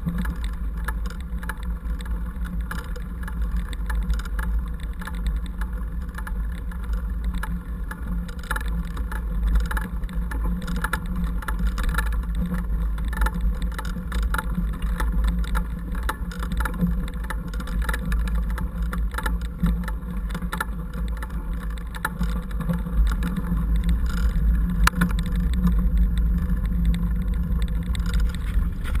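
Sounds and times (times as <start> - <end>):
bike rattles and knocks: 0.0 - 29.0
wind rumble on microphone: 0.0 - 29.0.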